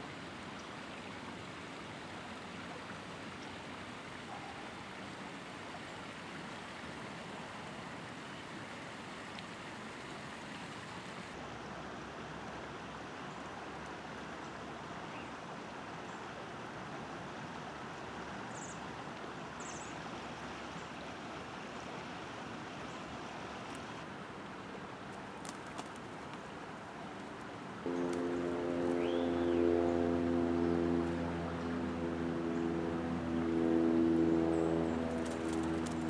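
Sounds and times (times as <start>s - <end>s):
rushing outdoor background noise: 0.0s - 36.0s.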